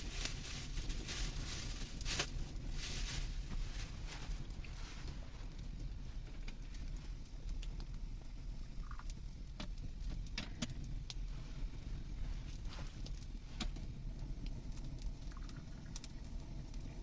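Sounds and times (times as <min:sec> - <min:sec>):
sharp clicks and crackles: 0:00.0 - 0:11.4, 0:12.5 - 0:17.0
steady low rumble: 0:00.0 - 0:17.0.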